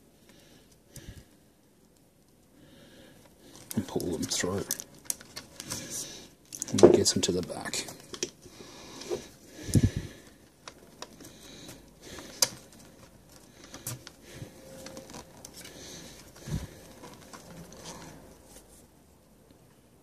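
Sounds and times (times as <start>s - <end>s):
cord rustling and rubbing: 3.2s - 19.2s.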